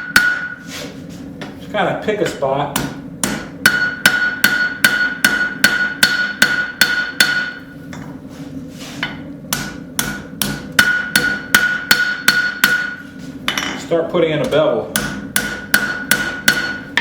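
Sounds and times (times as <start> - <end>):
hammer striking hot steel on anvil: 0.0 - 0.6, 2.2 - 8.1, 9.0 - 17.0.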